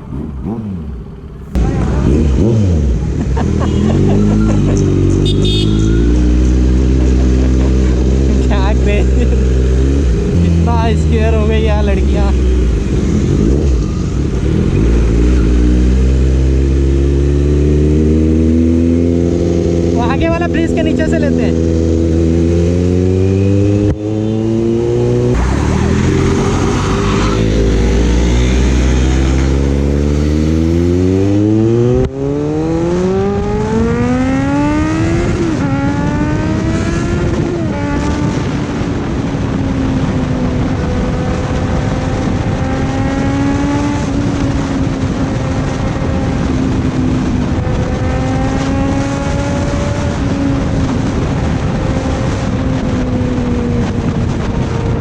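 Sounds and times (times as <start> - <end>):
motorcycle engine accelerating: 0.0 - 55.0
wind rush: 4.8 - 55.0.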